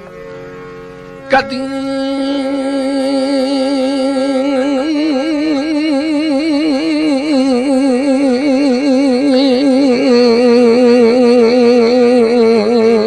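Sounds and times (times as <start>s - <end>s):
quiet accompaniment: 0.0s - 13.0s.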